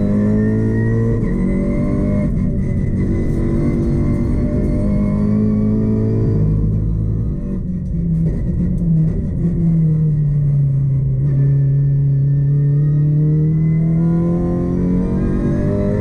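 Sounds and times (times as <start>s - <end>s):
racing car engine: 0.0s - 16.0s.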